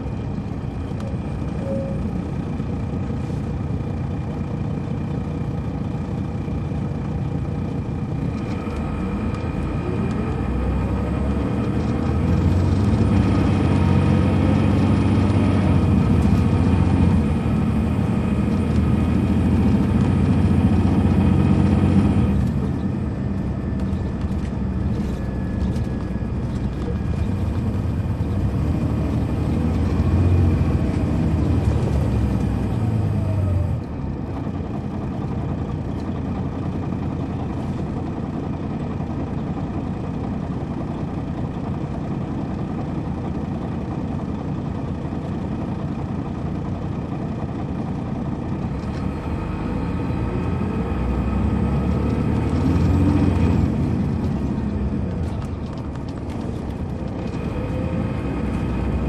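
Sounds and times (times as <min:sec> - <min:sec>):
bus diesel engine pulling: 0:00.0 - 0:59.0.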